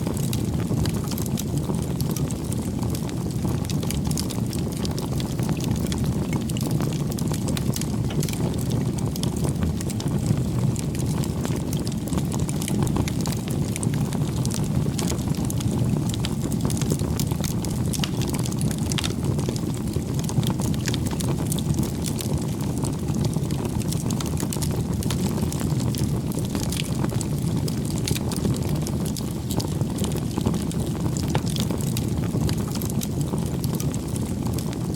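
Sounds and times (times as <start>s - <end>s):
burning wood crackling: 0.0s - 34.9s
rush of flames: 0.0s - 34.9s.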